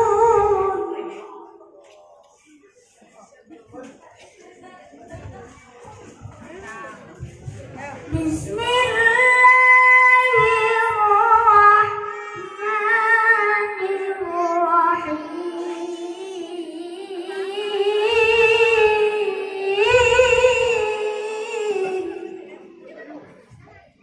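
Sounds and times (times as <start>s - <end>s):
child reciting melodically over pa: 0.0s - 2.5s, 7.2s - 24.0s.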